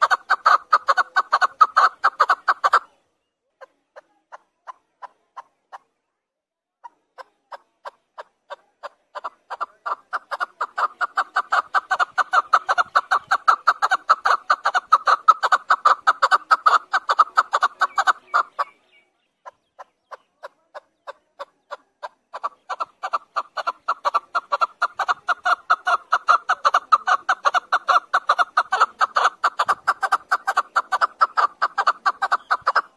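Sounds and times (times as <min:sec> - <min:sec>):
partridge clucking calls: 0:00.0 - 0:03.0, 0:03.6 - 0:06.0, 0:06.8 - 0:32.9.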